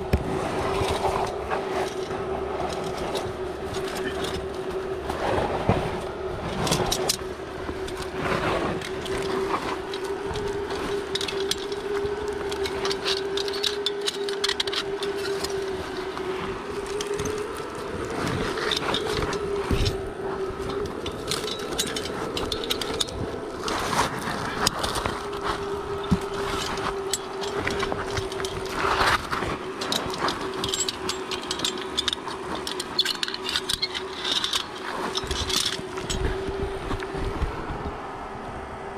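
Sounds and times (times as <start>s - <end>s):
metal climbing gear clicking: 0.0s - 37.4s
branches and leaves rustling: 0.0s - 38.9s
steady low hum: 0.0s - 38.9s.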